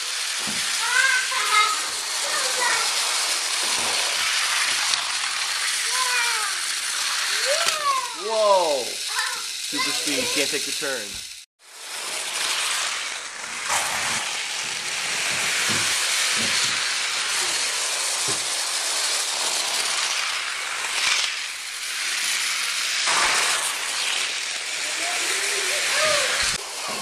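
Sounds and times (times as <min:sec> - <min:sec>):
toy train hissing rattle: 0:00.0 - 0:27.0.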